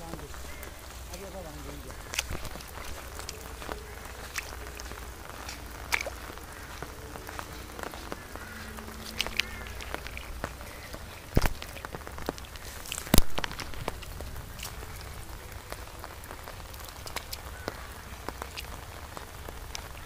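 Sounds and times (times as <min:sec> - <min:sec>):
water splashes and drips: 0:00.0 - 0:20.0.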